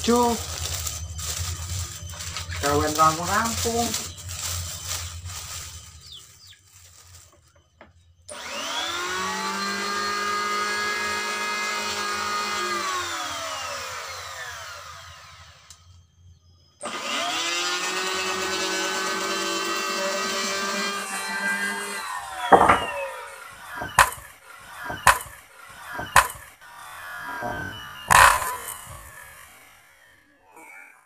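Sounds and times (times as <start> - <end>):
planer winding down whine: 0.0 - 6.2, 7.8 - 30.9
electric planer running: 0.0 - 7.2, 8.3 - 16.0, 16.8 - 30.4.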